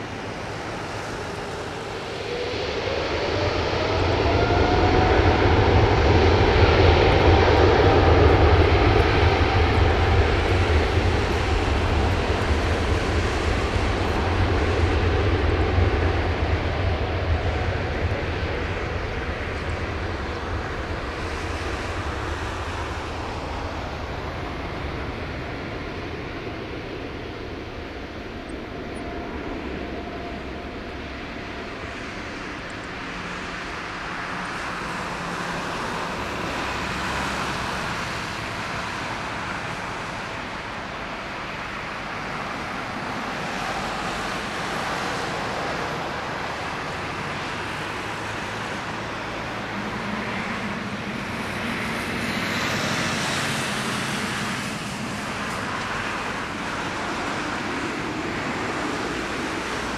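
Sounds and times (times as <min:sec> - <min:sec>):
jet engines rumbling and hissing: 0:00.0 - 0:59.9.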